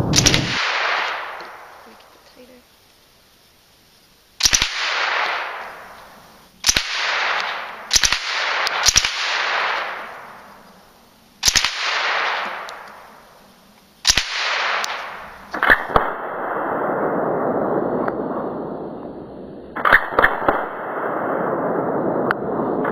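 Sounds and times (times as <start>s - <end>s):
gunshot echo: 0.0s - 2.0s, 4.4s - 10.8s, 11.4s - 13.3s, 14.0s - 18.9s, 19.7s - 22.9s.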